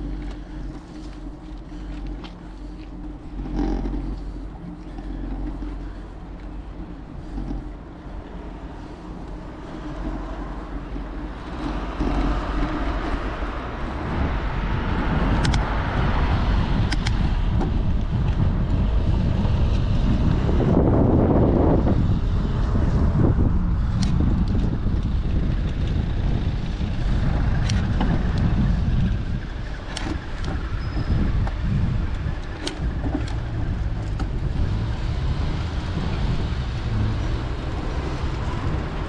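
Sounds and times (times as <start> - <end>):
road noise: 0.0 - 39.0
traffic hum: 0.0 - 39.0
wind rushing over microphone: 0.0 - 39.0.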